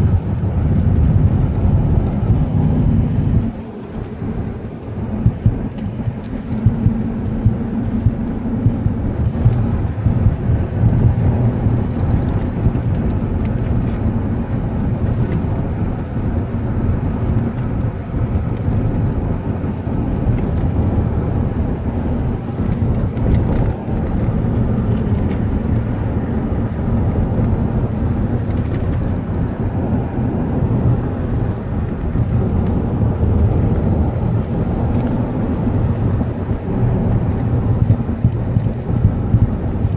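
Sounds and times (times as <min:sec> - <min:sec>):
car road and wind rumble: 0:00.0 - 0:39.9.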